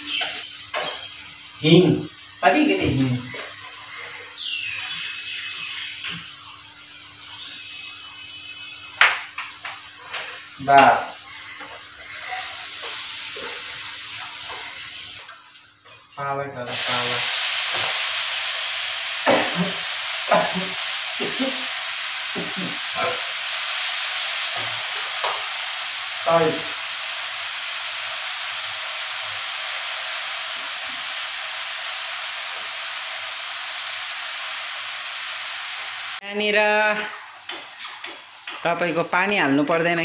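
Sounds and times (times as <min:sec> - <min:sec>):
spinach sizzling in a wok: 0:00.0 - 0:36.2.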